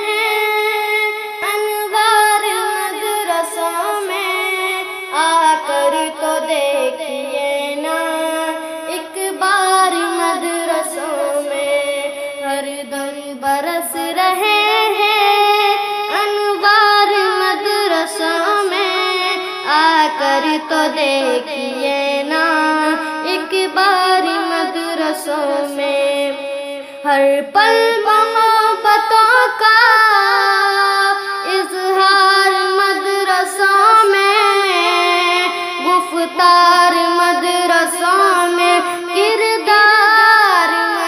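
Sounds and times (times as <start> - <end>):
high voice singing devotional song: 0.0 - 41.0.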